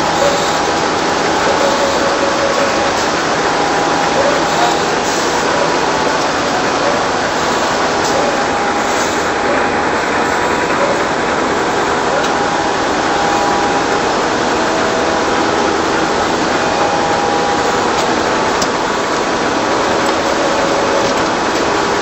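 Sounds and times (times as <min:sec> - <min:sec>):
production line machinery running: 0:00.0 - 0:22.0.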